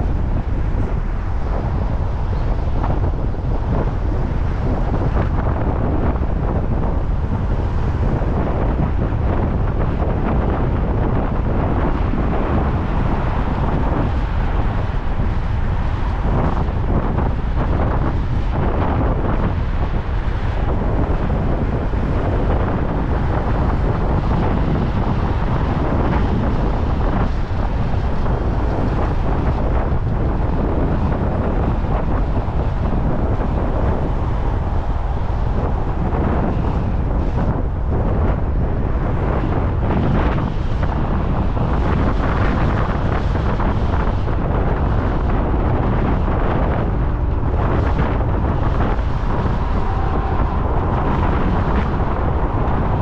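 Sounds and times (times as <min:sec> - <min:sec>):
car road noise: 0:00.0 - 0:53.0
wind rushing over microphone: 0:00.0 - 0:53.0.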